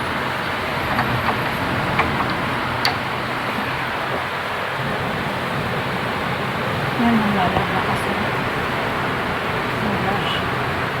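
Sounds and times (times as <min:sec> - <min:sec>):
heavy rain: 0:00.0 - 0:11.0
strong wind: 0:00.0 - 0:11.0.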